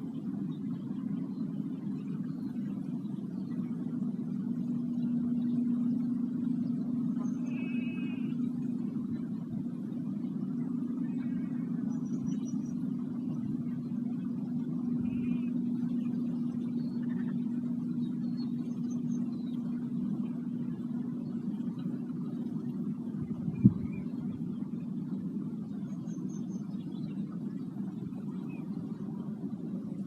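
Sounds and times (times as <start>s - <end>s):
rumbling hum: 0.0s - 30.0s
faint bird chirps: 0.2s - 9.4s, 10.0s - 21.5s, 25.6s - 29.1s.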